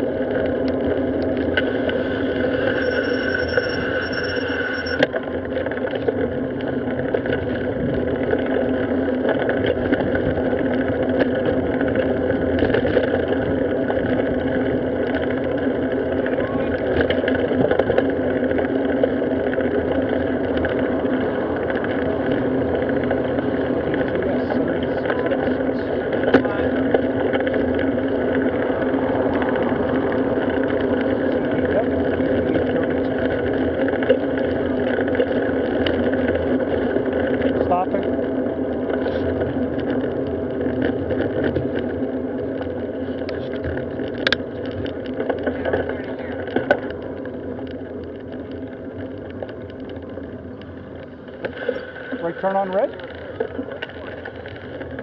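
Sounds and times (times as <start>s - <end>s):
road noise from bicycle: 0.0s - 55.0s
wind rumble: 0.0s - 55.0s.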